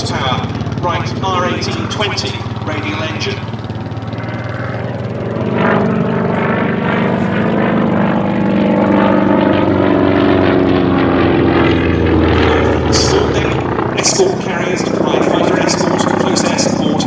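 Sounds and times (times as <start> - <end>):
propeller plane flying past: 0.0 - 17.0.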